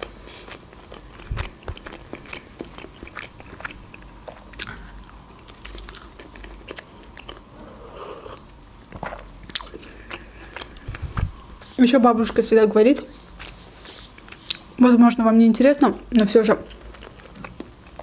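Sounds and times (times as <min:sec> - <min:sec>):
person chewing crunchy food: 0:00.0 - 0:14.8, 0:16.0 - 0:18.0.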